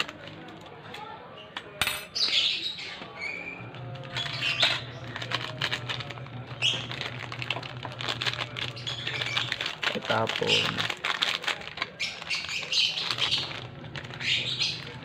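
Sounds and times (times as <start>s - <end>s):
plastic sachets crinkling: 0.0s - 1.0s, 3.6s - 15.0s.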